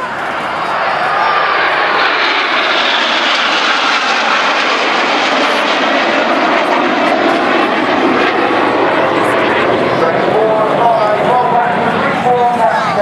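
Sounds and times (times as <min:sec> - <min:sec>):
jet aircraft flying by: 0:00.0 - 0:13.0.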